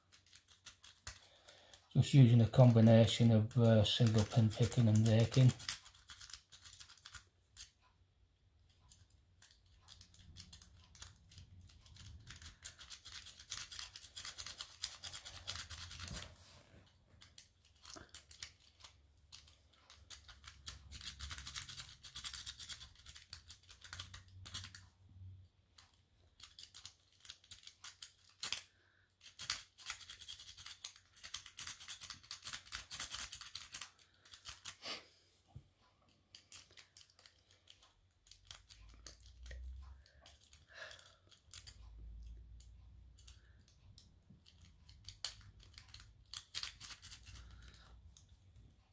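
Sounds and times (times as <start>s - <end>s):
lock pick scratching and clicking: 0.1s - 1.3s, 3.6s - 7.8s, 8.7s - 16.2s, 17.2s - 24.8s, 25.8s - 34.8s, 36.3s - 42.3s, 43.2s - 47.9s.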